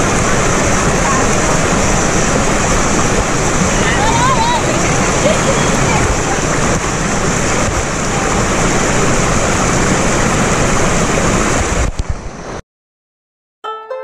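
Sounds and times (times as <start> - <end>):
stream rushing over rocks: 0.0 - 12.6.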